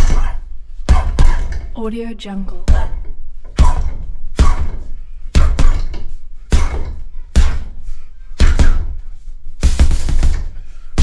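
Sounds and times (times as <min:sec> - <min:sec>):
gloves punching heavy bag: 0:00.0 - 0:01.7, 0:02.6 - 0:11.0.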